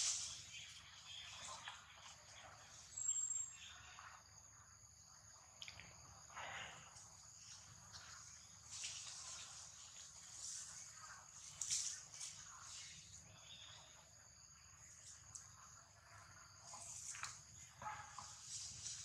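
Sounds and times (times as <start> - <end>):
high insect chorus: 0.0 - 19.0.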